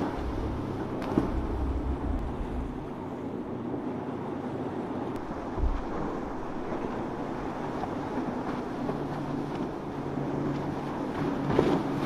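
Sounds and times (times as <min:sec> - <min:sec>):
motorboat engines running: 0:00.0 - 0:12.0
wind buffeting microphone: 0:00.0 - 0:12.0.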